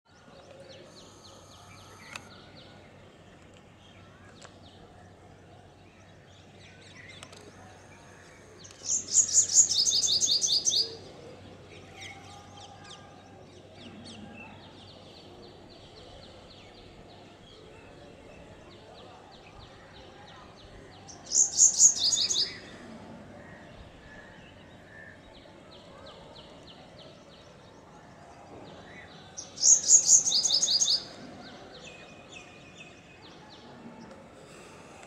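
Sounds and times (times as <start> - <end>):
bird song of sharp notes: 0.1 - 34.8
faint bird chirping: 0.1 - 35.0.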